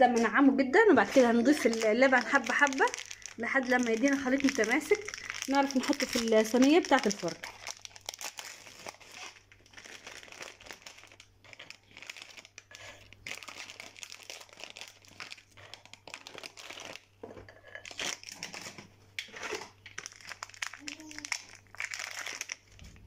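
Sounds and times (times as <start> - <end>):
plastic wrappers crinkling: 1.0 - 23.0.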